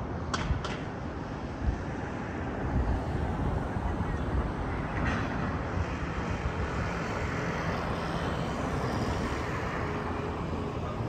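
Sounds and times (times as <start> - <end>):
city background noise: 0.0 - 11.0.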